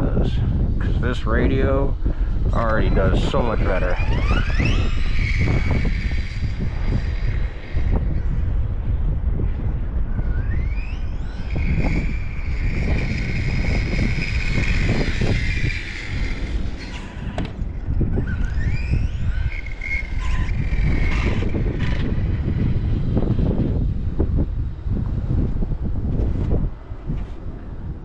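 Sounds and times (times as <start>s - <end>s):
electric motor whining: 0.0s - 26.6s
wind rumble on microphone: 0.0s - 28.0s.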